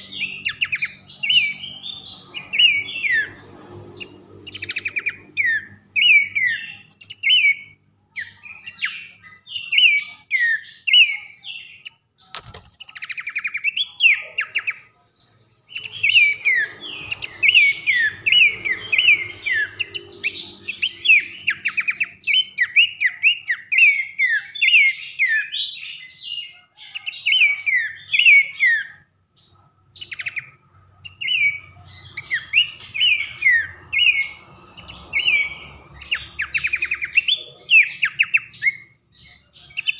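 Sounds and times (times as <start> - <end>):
bird singing whistled notes: 0.0 - 12.0, 15.7 - 39.9.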